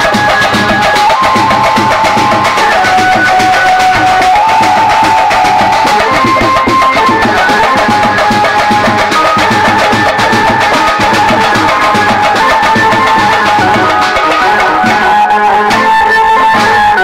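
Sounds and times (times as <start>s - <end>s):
fast stick-struck drumming: 0.0s - 17.0s
high held tone: 0.0s - 17.0s.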